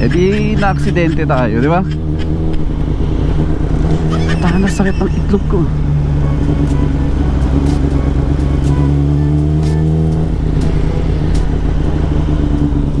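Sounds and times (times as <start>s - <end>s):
motorcycle engine running: 0.0s - 13.0s
road rumble: 0.0s - 13.0s
wind: 0.0s - 13.0s.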